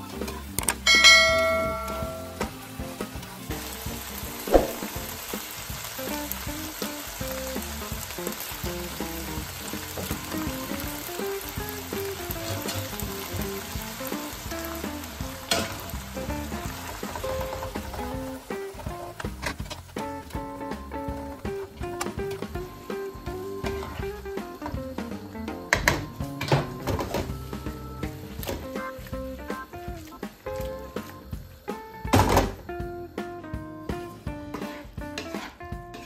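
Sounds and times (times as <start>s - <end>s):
faint music: 0.0s - 36.0s
food sizzling in a frying pan: 0.0s - 36.0s.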